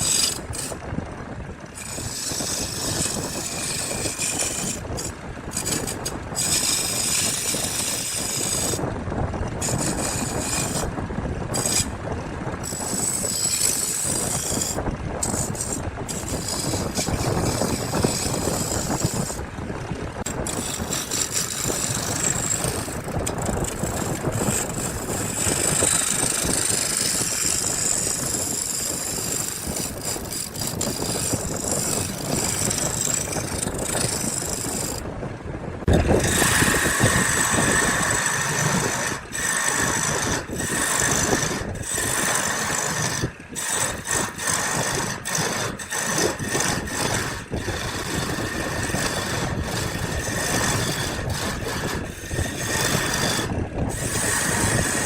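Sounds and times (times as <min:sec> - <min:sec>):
power tool grinding wood: 0:00.0 - 0:00.8, 0:01.6 - 0:08.8, 0:09.6 - 0:10.9, 0:11.5 - 0:12.0, 0:12.6 - 0:19.4, 0:20.2 - 0:35.0, 0:35.8 - 0:55.0.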